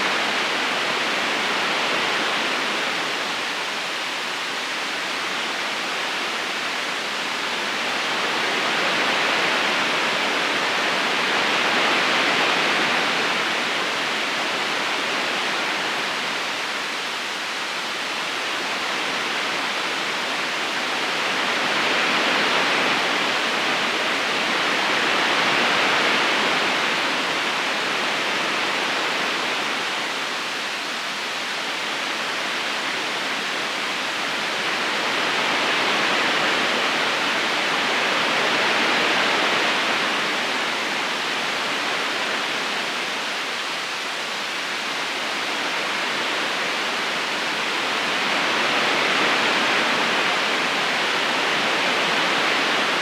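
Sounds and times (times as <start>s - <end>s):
river rushing over stones: 0.0s - 53.0s.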